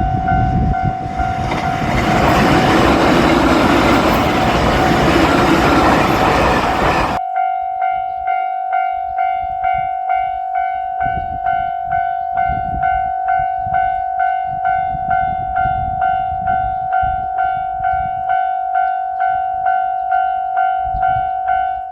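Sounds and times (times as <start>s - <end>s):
express train passing: 0.0s - 7.2s, 7.9s - 21.9s
level crossing warning bell: 0.0s - 21.9s.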